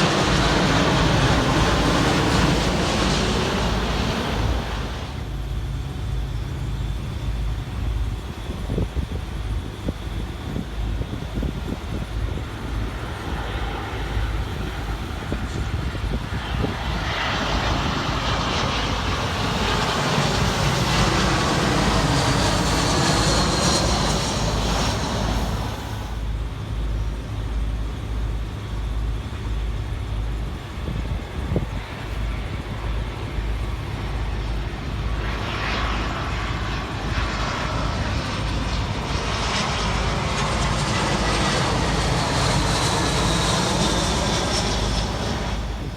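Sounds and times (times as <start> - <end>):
jet airliner passing overhead: 0.0 - 45.9
wind buffeting microphone: 0.0 - 45.9.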